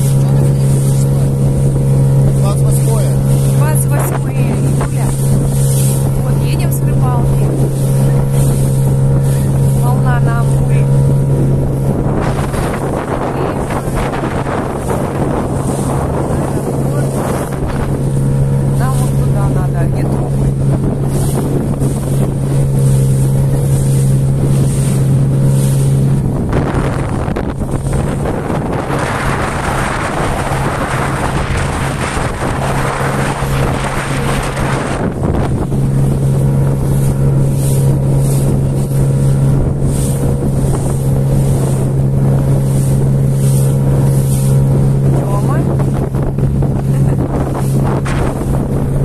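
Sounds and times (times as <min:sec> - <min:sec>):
outboard motor drone: 0:00.0 - 0:49.0
wind and water rush: 0:00.0 - 0:49.0.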